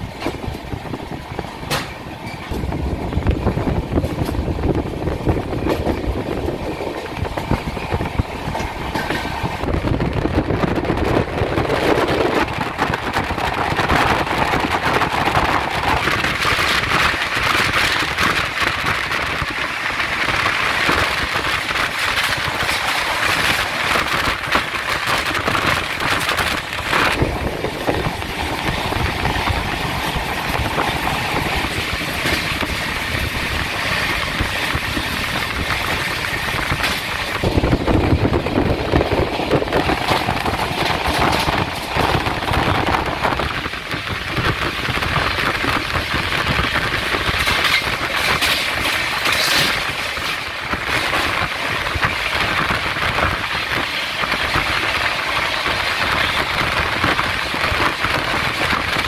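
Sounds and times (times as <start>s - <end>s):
rushing noise: 0.0s - 59.0s
train wheels rumbling on rails: 0.0s - 59.0s.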